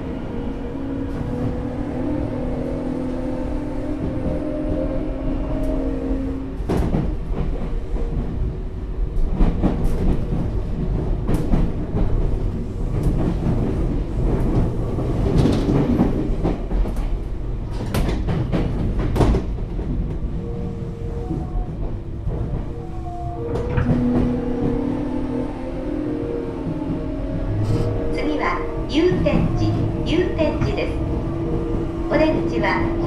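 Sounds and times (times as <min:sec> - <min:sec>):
wheel and rail rumble: 0:00.0 - 0:33.0.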